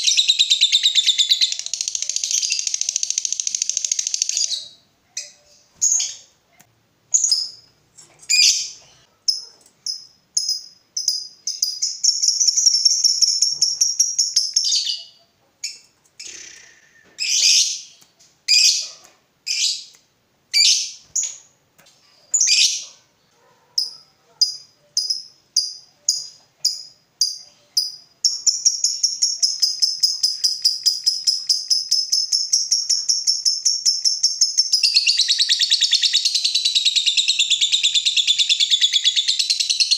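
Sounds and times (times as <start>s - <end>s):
lovebird chattering trill: 0.0s - 6.2s, 8.3s - 18.9s, 23.8s - 39.9s
lovebird chirping: 0.0s - 6.4s, 7.1s - 21.5s, 22.3s - 23.0s, 23.8s - 39.9s.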